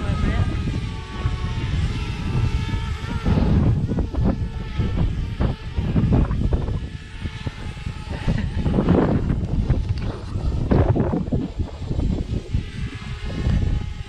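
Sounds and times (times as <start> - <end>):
drone propellers whining: 0.0 - 14.0
wind buffeting microphone: 0.0 - 14.0.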